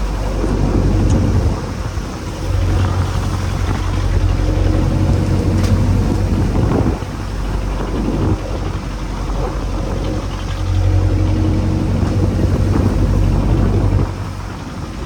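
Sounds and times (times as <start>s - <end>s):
boat engine running: 0.0s - 15.0s
water rushing: 0.0s - 15.0s
wind noise: 0.0s - 15.0s.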